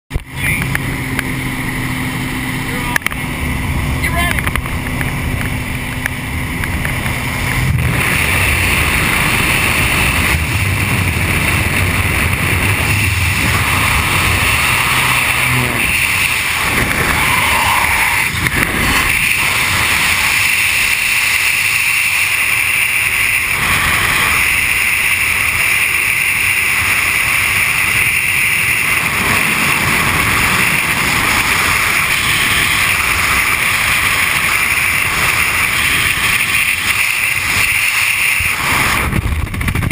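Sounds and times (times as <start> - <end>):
airplane engine drone: 0.1 - 39.9
freefall wind rushing: 0.9 - 39.9.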